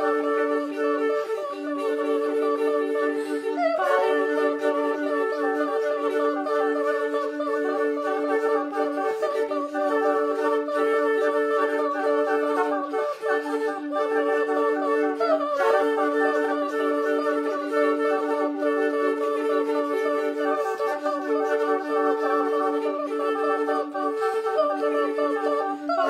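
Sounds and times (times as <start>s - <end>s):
soprano and countertenor voices: 0.0s - 26.0s
two flutes holding long notes: 0.0s - 26.0s.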